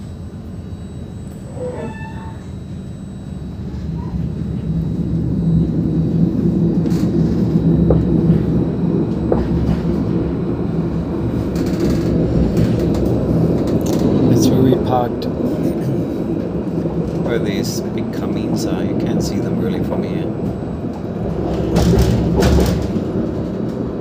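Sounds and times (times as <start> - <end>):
tram rumbling on track: 0.0 - 24.0.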